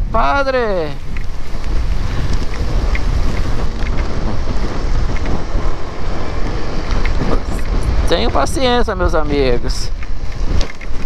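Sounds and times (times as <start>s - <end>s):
rain hiss: 0.0s - 11.0s
wind buffeting microphone: 0.0s - 11.0s.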